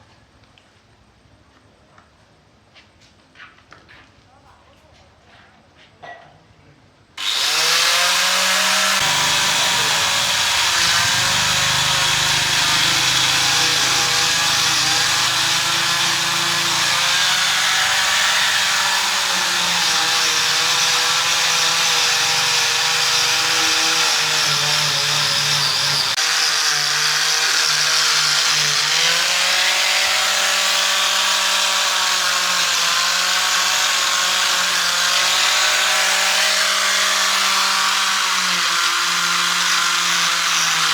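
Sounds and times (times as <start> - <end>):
power tool motor running: 7.2 - 40.9.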